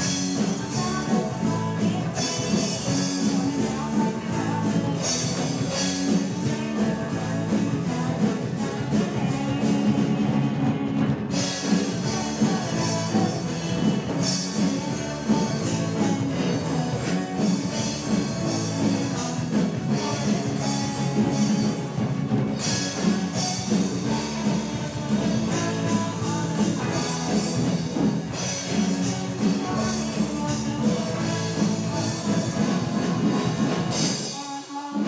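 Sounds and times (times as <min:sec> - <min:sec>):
bass guitar: 0:00.0 - 0:35.0
drum kit rock beat: 0:00.0 - 0:35.0
electric guitars: 0:00.0 - 0:35.0.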